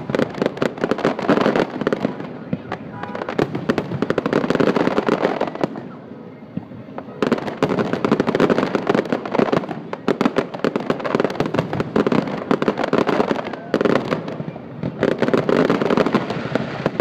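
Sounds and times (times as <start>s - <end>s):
fireworks crackling pops and bangs: 0.0s - 17.0s.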